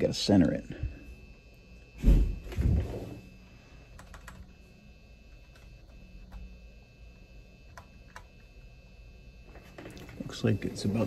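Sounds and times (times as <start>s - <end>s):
machine hum: 0.0s - 11.0s
thin high whine: 0.0s - 11.0s.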